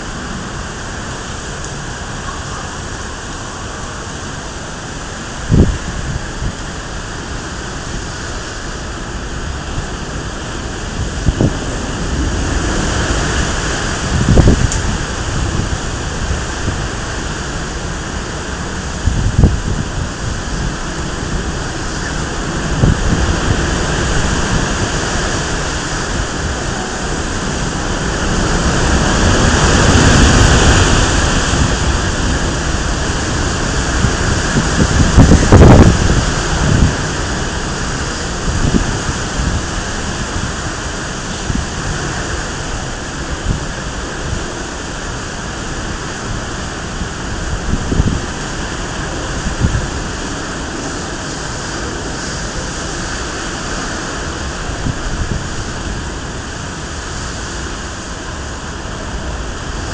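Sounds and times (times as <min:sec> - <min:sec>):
heavy rain: 0:00.0 - 0:59.9
strong wind: 0:00.0 - 0:59.9
wind buffeting microphone: 0:00.0 - 0:59.9.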